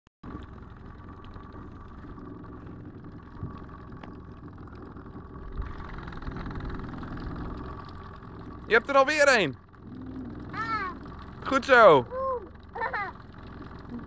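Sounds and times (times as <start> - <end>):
boat motor idling: 0.2 - 14.0.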